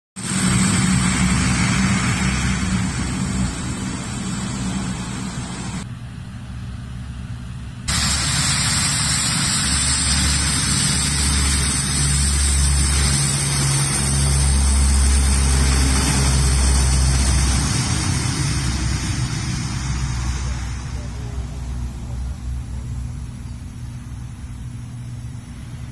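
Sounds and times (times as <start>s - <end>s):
low hum: 0.2s - 25.9s
turboprop engines droning: 0.2s - 25.9s.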